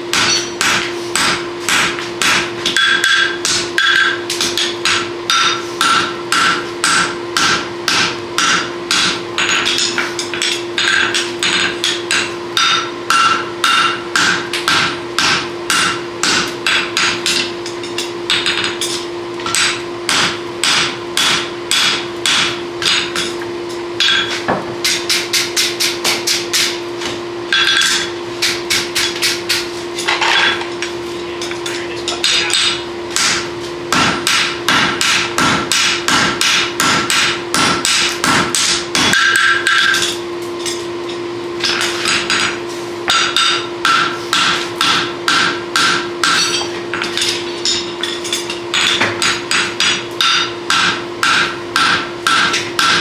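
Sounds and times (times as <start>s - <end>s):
hammers striking anvil: 0.0s - 53.0s
steady hum: 0.0s - 53.0s.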